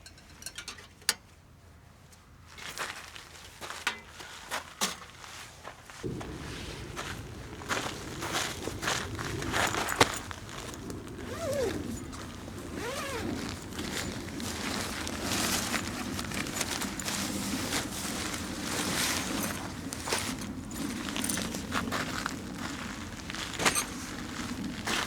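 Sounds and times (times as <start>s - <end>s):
rustling of camping gear: 2.0s - 25.0s.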